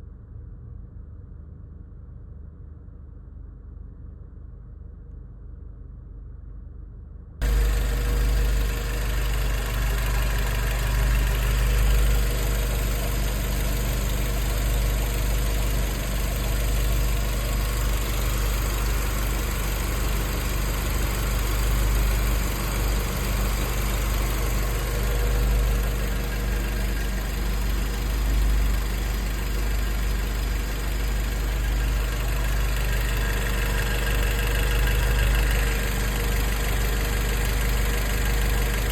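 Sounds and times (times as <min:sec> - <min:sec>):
car engine idling: 0:07.4 - 0:38.9.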